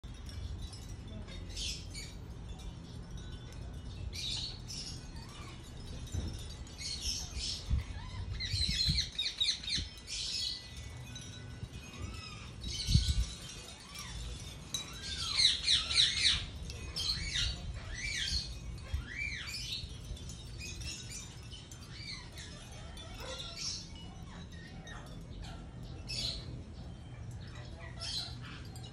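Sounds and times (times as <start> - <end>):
parakeets chattering and squawking: 0.0 - 28.9.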